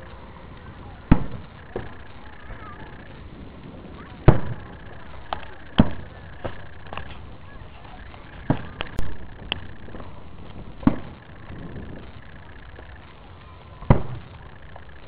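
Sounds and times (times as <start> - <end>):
fireworks loud bangs: 0.0 - 15.0
faint firework pops: 0.5 - 15.0.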